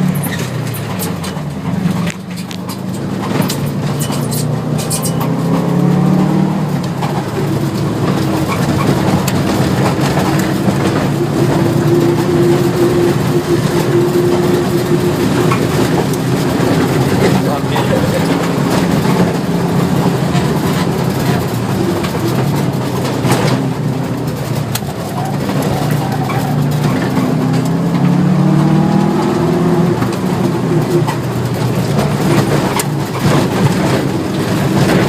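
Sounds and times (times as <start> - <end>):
rally car engine running: 0.0 - 35.0
sharp clicks and rattles: 0.1 - 35.0.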